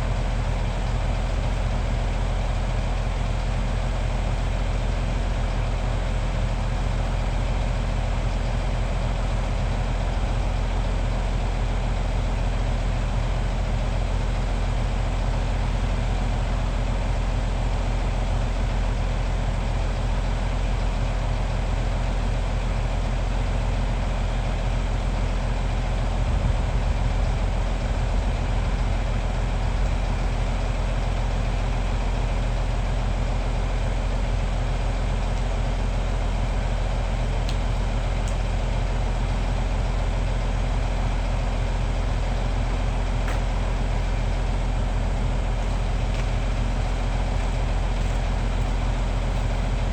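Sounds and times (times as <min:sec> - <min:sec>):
excavator diesel engine idling: 0:00.0 - 0:49.9.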